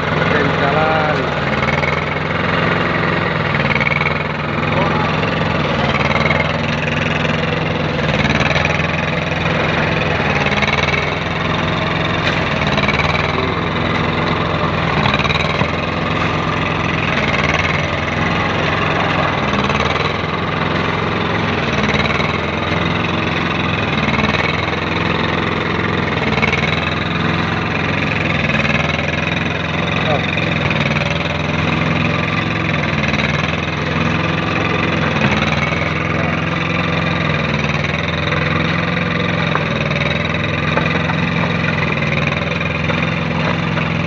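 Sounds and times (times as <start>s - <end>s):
machine engine running steadily: 0.0s - 44.0s.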